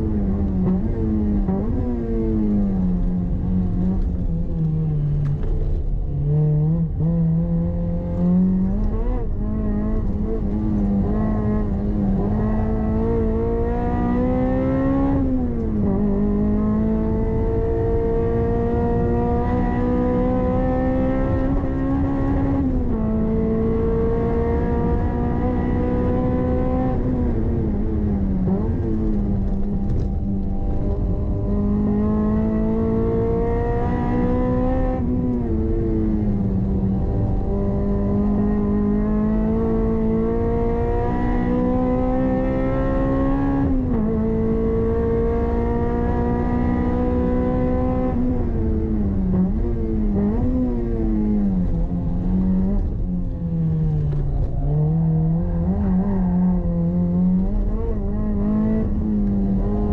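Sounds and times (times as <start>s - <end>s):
engine revving through gears: 3.7s - 53.0s, 53.8s - 59.9s.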